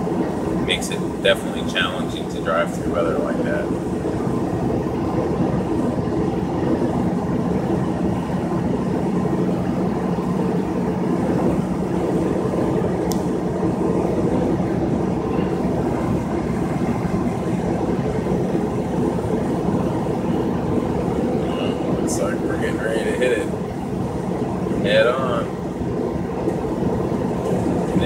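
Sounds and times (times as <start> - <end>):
road noise: 0.0 - 28.0
truck engine drone: 0.0 - 28.0.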